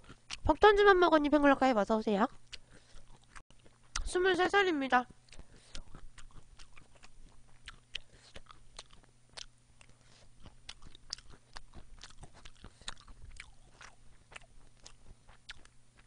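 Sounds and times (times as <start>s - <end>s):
person chewing food: 0.0s - 0.5s, 2.3s - 4.1s, 5.1s - 16.0s.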